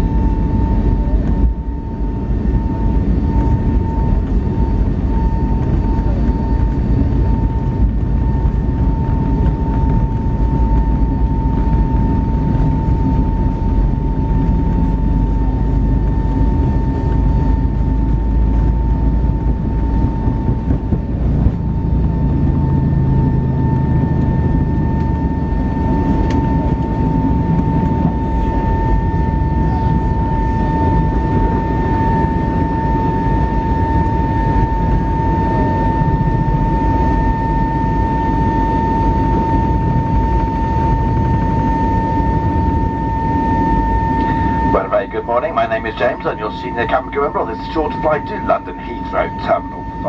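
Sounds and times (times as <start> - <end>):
low rumble of engines and airflow: 0.0 - 50.0
steady high tone: 2.2 - 50.0.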